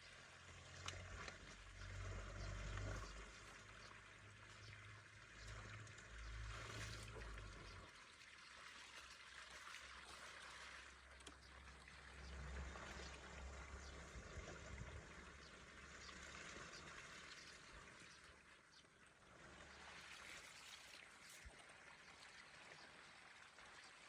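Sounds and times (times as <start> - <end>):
water trickling through culvert: 0.0 - 24.0.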